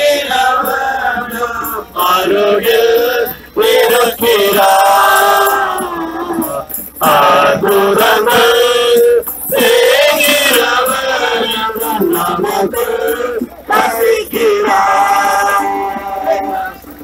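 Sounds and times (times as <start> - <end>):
men singing a hymn: 0.0 - 17.0.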